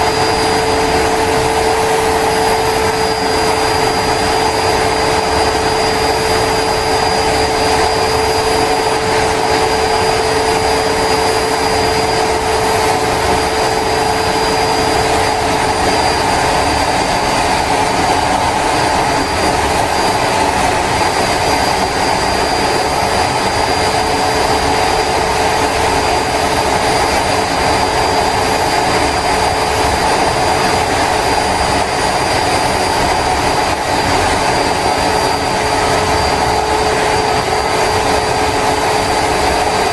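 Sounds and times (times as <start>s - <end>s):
high whine: 0.0s - 39.9s
jet engine rushing: 0.0s - 39.9s.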